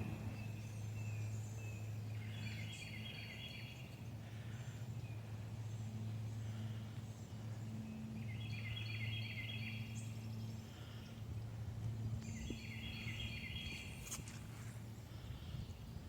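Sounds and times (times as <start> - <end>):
songbird chattering song: 0.0 - 14.2
steady low hum: 0.0 - 16.0.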